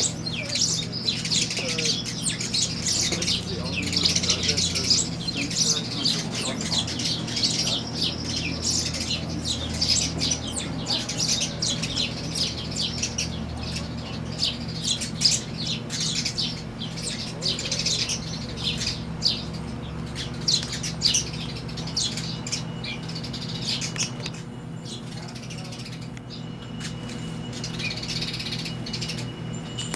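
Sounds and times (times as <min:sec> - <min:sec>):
sparrows chirping: 0:00.0 - 0:29.9
steady low hum: 0:00.0 - 0:29.9.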